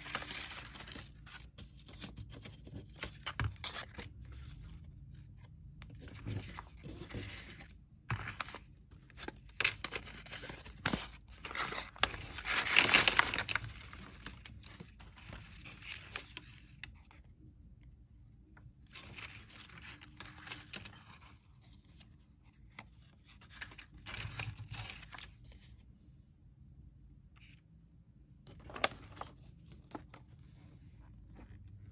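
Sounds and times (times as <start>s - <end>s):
paper rustling and scraping: 0.0s - 17.2s, 18.9s - 25.8s, 28.5s - 31.9s.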